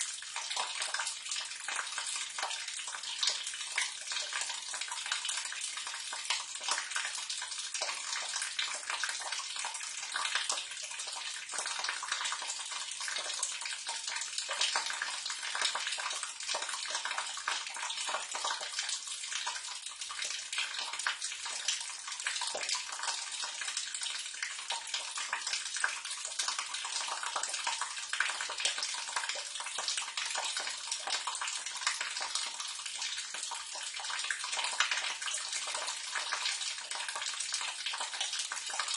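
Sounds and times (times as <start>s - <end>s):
water splashing into drain: 0.0s - 38.9s.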